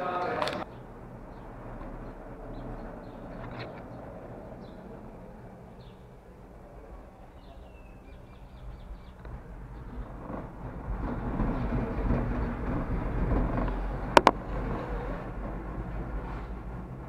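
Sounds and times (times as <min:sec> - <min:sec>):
cable car machinery hum: 0:00.0 - 0:17.0.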